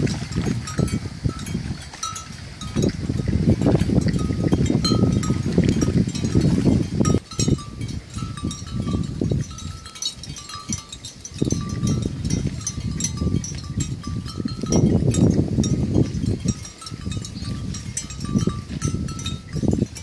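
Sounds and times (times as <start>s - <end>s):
neck bells clanking: 0.1s - 20.0s.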